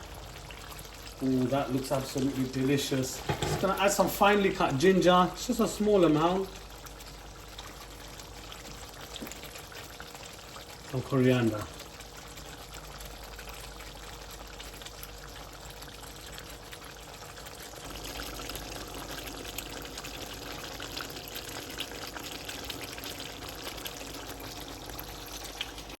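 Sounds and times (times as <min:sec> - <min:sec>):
food simmering in a pan: 0:00.0 - 0:26.0.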